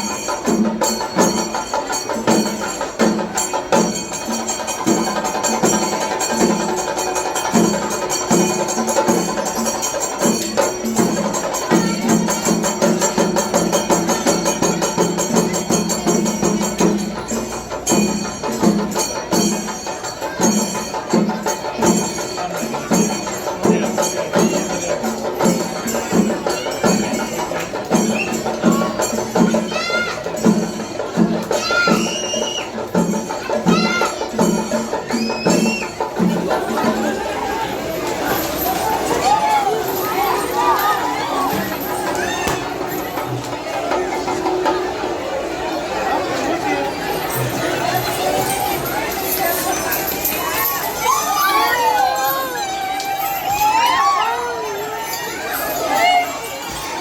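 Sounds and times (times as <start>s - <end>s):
drums beating fast rhythm: 0.0s - 57.0s
small hand cymbals: 0.0s - 57.0s.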